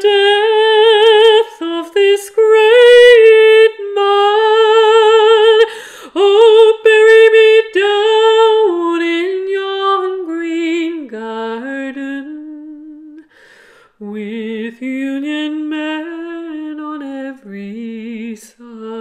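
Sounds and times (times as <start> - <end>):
woman singing a cappella: 0.0 - 19.0.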